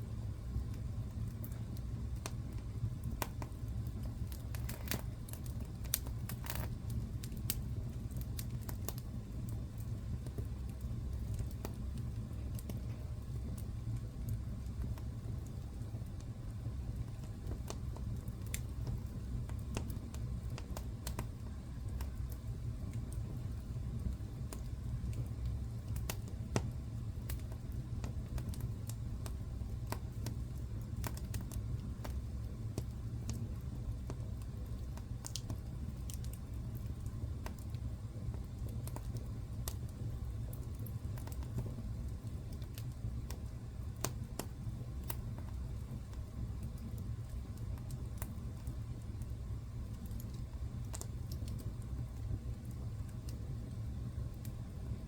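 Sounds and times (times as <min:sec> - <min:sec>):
wood fire burning: 0:00.0 - 0:55.0
burning logs popping: 0:00.1 - 0:55.0.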